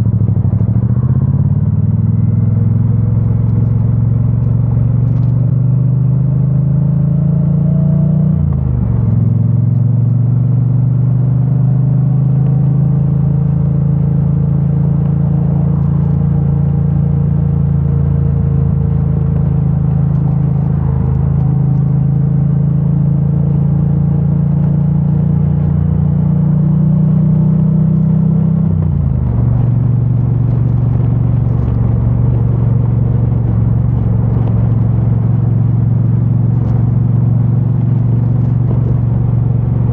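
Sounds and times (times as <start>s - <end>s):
muffled motorcycle engine: 0.0s - 39.9s.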